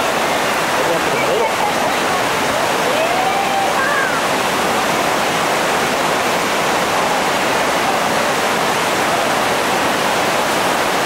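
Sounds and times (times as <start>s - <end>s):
river rapid rushing: 0.0s - 11.0s.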